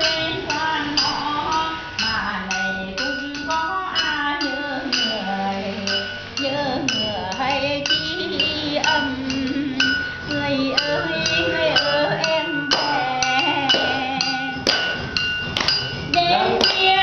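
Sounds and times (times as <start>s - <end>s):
voices singing folk song: 0.0s - 15.4s, 16.1s - 17.0s.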